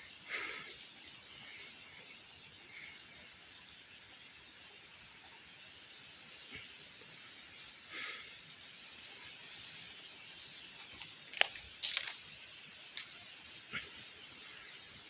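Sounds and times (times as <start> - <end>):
creek flowing: 0.0 - 15.0.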